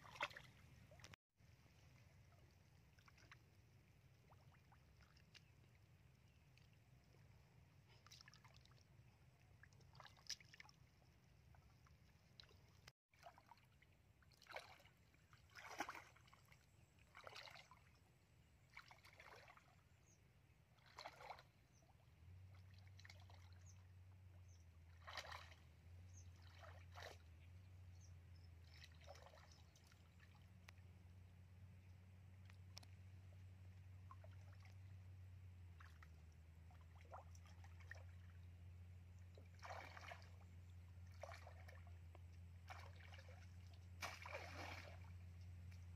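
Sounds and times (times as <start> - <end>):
muddy water sloshing: 0.0 - 45.9.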